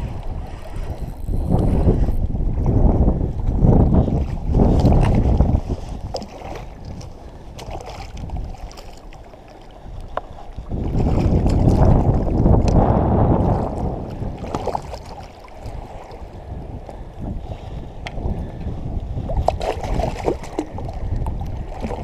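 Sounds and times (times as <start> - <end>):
water sloshing and lapping: 0.0 - 22.0
wind buffeting: 0.0 - 22.0.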